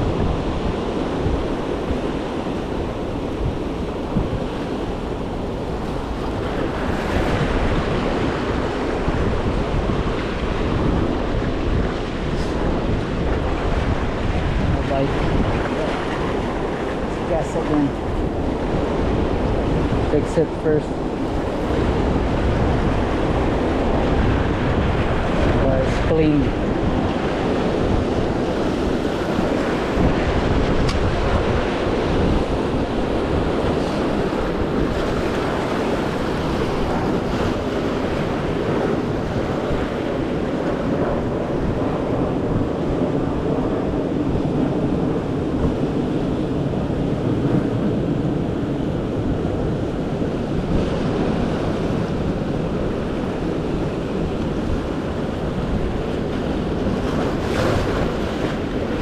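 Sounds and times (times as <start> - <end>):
ocean surf washing in: 0.0 - 59.0
wind buffeting microphone: 0.0 - 59.0.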